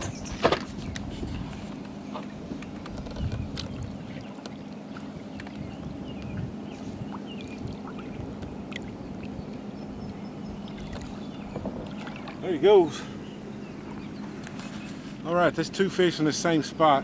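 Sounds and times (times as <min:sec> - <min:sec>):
water sloshing against boat hull: 0:00.0 - 0:15.3
steady low hum: 0:00.0 - 0:17.0.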